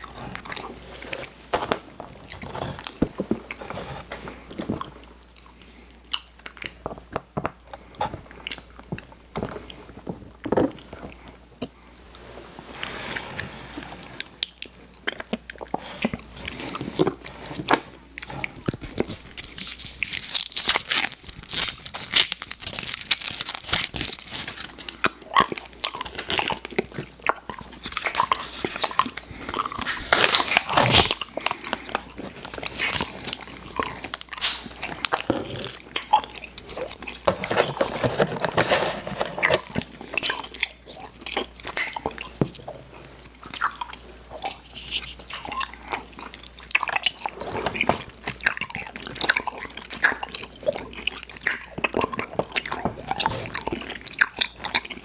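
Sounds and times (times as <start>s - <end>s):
chewing and crunching candy: 0.0s - 12.9s, 13.8s - 55.0s.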